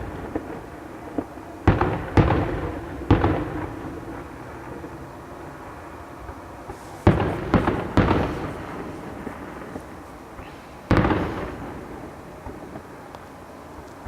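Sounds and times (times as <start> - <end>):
fireworks booms with rolling echo: 0.0 - 13.8.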